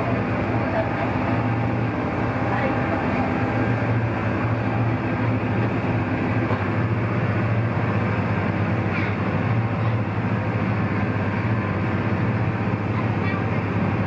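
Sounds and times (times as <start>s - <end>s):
boat engine humming: 0.0s - 14.0s
water rushing along hull: 0.0s - 14.0s.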